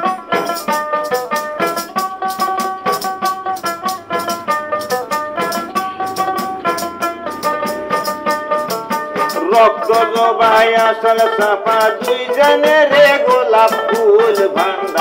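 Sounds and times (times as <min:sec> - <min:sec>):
jingling frame drum: 0:00.0 - 0:15.0
plucked lute melody: 0:00.0 - 0:15.0
shaker beat: 0:00.0 - 0:15.0.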